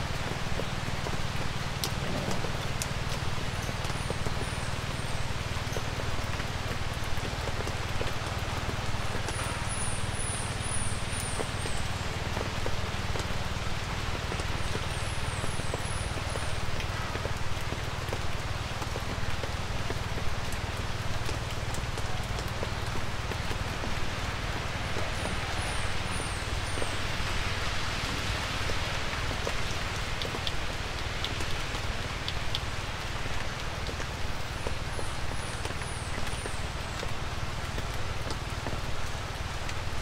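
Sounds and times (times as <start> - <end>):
light rain patter: 0.0 - 40.0.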